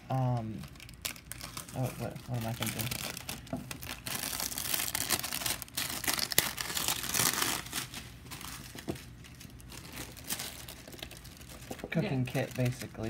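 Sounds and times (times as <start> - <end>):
packaging crinkling: 0.4 - 13.0.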